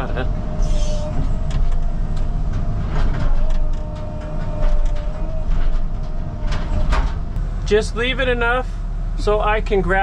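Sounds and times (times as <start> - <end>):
hydraulic whine: 0.0 - 9.3
diesel engine running: 0.0 - 10.0.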